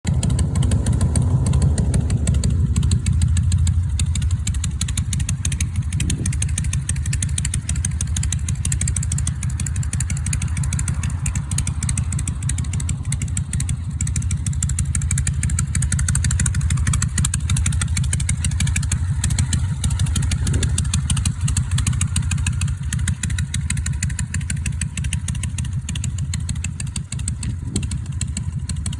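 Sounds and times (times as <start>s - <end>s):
motorcycle engine idling: 0.0s - 28.9s.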